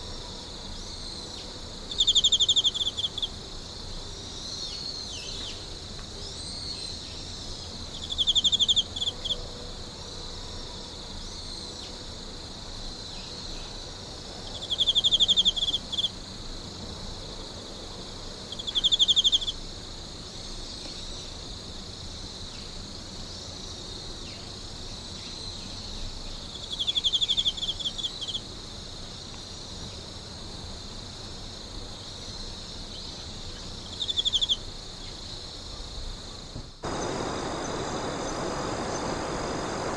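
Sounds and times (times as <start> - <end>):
insect chorus chirring: 0.0 - 39.9
insect rapid trills: 0.0 - 39.9.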